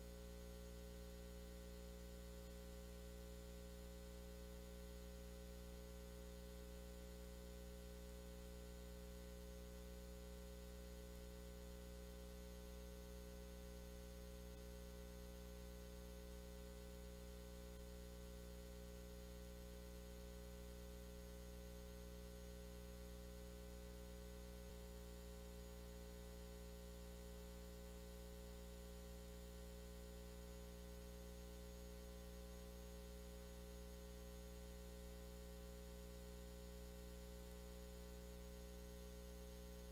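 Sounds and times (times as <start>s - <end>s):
faint electrical hum with hiss: 0.0s - 39.9s.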